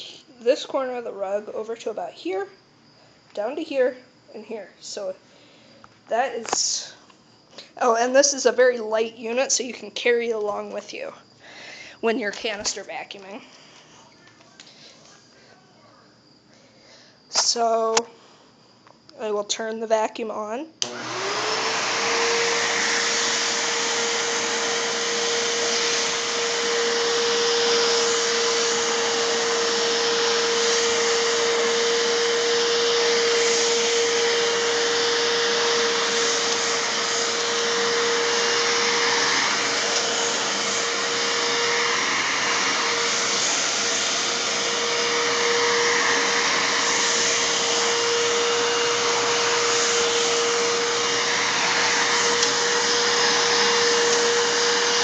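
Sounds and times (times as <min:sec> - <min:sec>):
vacuum cleaner whine: 0:00.0 - 0:19.6, 0:20.8 - 0:55.0.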